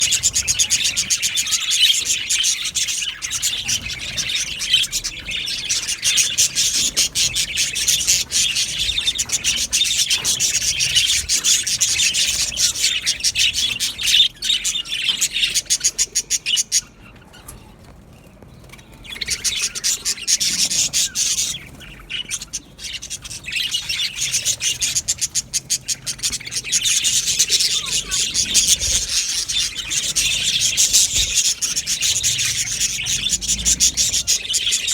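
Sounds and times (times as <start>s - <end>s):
budgerigars chattering: 0.0s - 17.5s, 18.7s - 34.9s.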